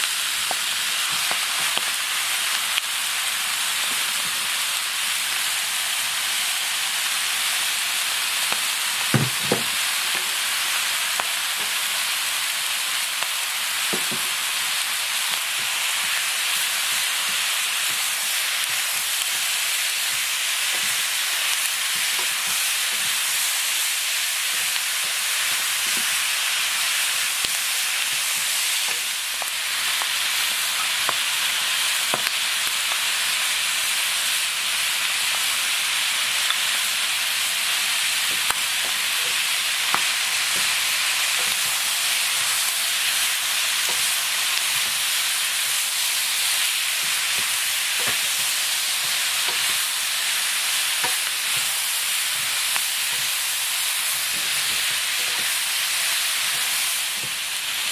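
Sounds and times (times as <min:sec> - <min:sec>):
food sizzling in a pan: 0:00.0 - 0:57.9.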